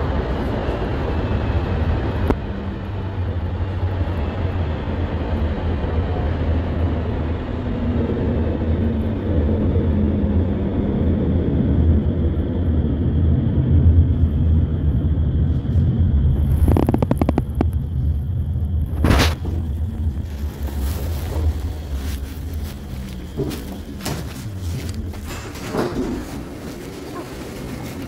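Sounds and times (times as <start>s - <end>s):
subway car rumble: 0.0s - 28.0s.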